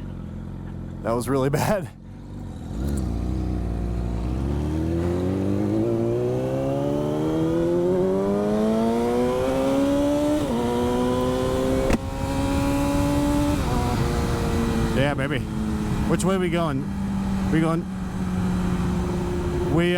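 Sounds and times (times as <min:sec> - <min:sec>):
vehicle engine accelerating: 0:02.0 - 0:19.9.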